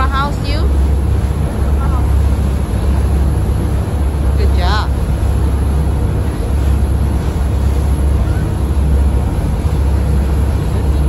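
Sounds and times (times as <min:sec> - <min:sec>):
ferry engine rumble: 0:00.0 - 0:11.0.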